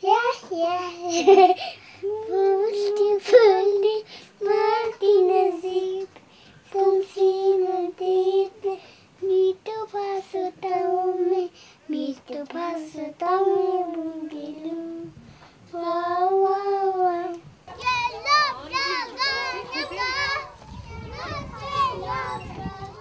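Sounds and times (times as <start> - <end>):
child singing: 0.0 - 23.0.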